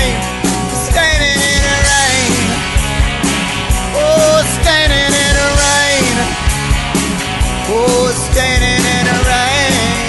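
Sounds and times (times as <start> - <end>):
drums keeping steady beat: 0.0 - 10.0
lead line with bending notes: 0.0 - 10.0
live rock band playing: 0.0 - 10.0.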